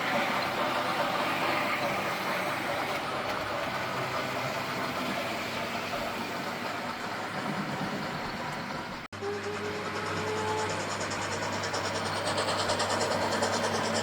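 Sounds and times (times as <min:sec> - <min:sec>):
model train steam effects: 0:00.0 - 0:14.0.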